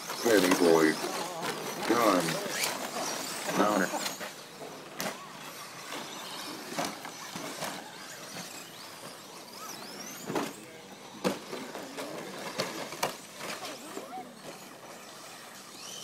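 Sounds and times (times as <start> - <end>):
rc truck motors whining: 0.0 - 16.0.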